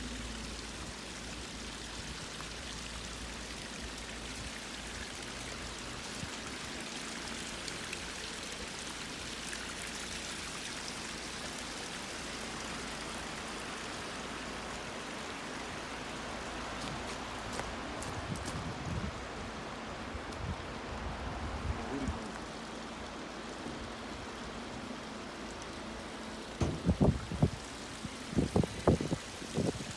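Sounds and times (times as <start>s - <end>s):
stream water rushing: 0.0s - 29.9s.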